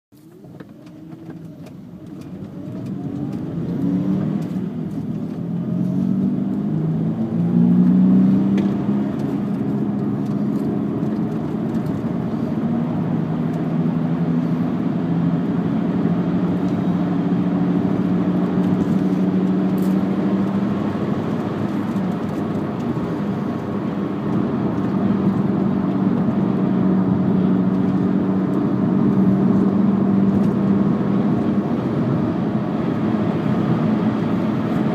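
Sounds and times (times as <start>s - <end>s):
car driving with low hum: 0.2s - 34.9s.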